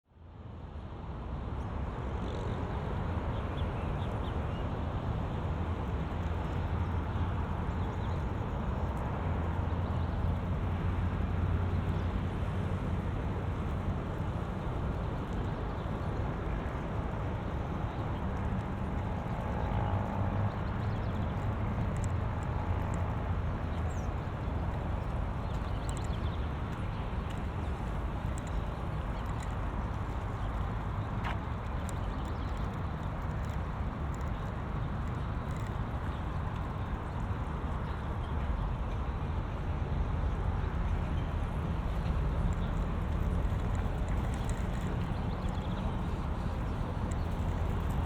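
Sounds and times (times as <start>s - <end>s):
road noise: 0.1s - 48.0s
wind rumble: 1.7s - 48.0s.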